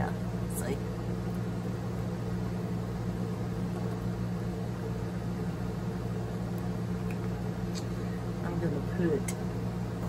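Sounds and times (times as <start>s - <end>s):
motor humming with hiss: 0.0s - 10.0s.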